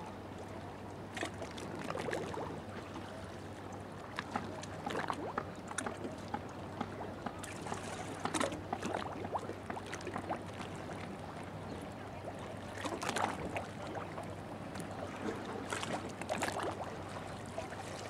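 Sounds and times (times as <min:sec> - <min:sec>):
water splashing against hull: 0:00.0 - 0:18.0.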